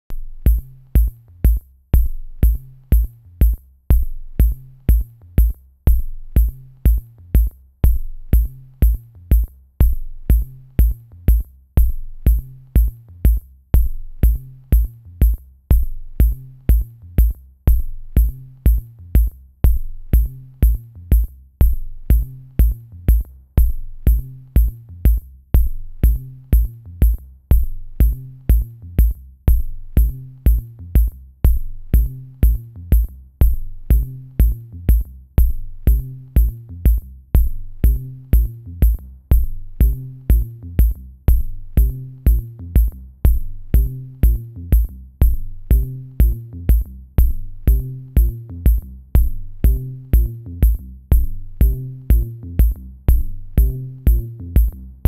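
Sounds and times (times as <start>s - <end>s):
kick drum beat: 0.0s - 55.0s
low bass line: 0.0s - 55.0s.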